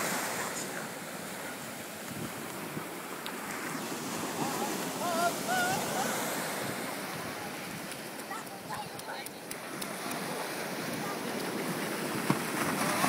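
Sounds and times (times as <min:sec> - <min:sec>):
ocean surf breaking: 0:00.0 - 0:13.0
wind buffeting microphone: 0:02.0 - 0:13.0.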